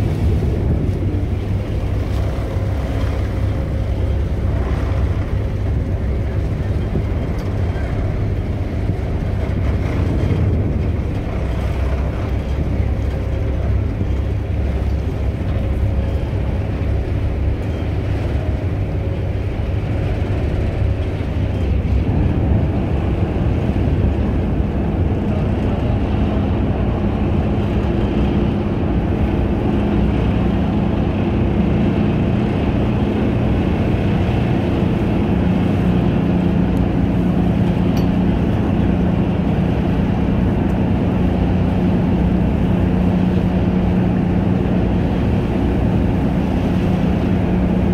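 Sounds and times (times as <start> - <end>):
ferry engines droning: 0.0 - 47.9.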